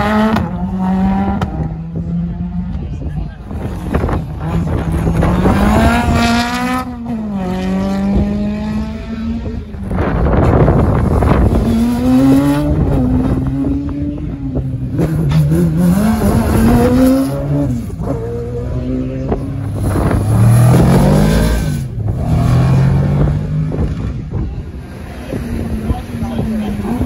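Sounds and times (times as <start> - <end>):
racing car engine accelerating: 3.5 - 27.0.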